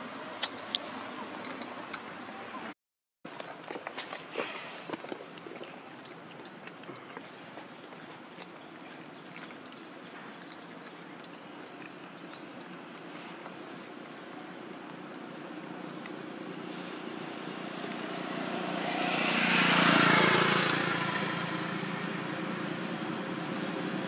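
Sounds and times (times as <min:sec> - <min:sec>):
small birds chirping: 0:03.4 - 0:24.0.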